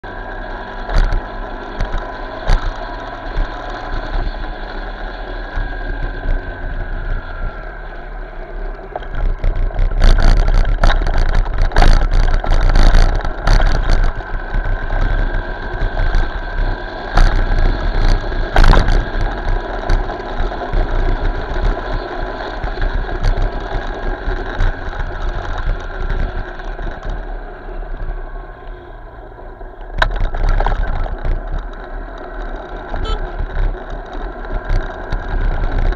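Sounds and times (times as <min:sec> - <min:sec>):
motorcycle engine and road rumble: 0:00.0 - 0:35.9.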